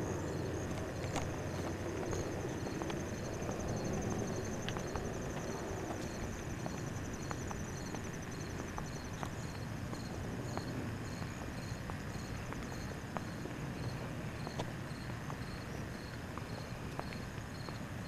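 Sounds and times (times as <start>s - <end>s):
insect high pulsing trill: 0.0s - 17.8s
insect chirping: 0.0s - 18.0s
light footsteps clicking: 0.0s - 18.0s
low background rumble: 0.0s - 18.0s.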